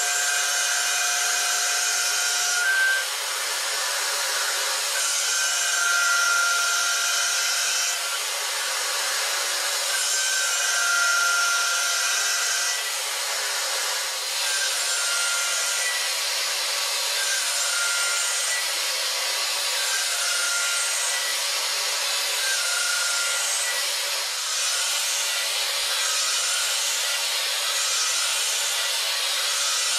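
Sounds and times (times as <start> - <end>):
high-pitched cutter whine: 0.0 - 29.9.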